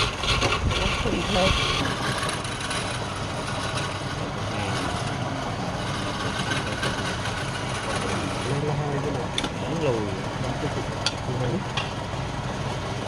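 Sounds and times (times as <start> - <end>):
woodworking machine motor running: 0.0 - 13.0.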